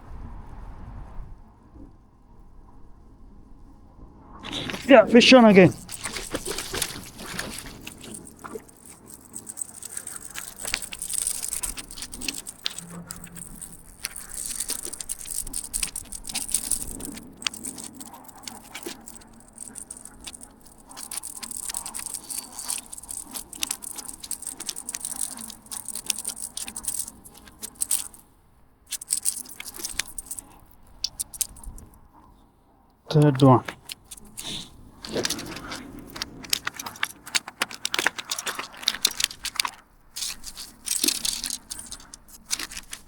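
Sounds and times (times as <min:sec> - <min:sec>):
fishing reel rattling and clicking: 0:04.4 - 0:28.2, 0:28.9 - 0:31.9, 0:33.2 - 0:43.0.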